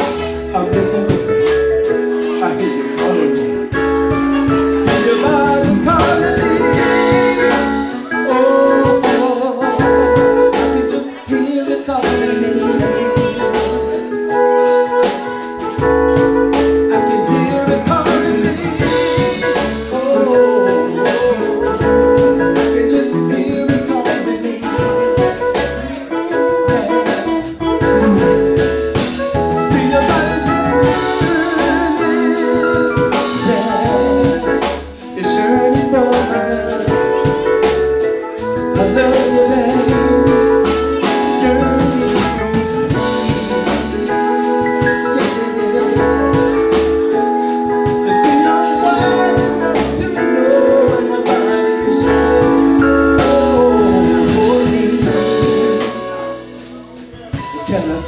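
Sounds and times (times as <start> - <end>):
drum kit: 0.0 - 58.0
electric bass guitar: 0.0 - 58.0
man singing into a microphone: 0.0 - 58.0.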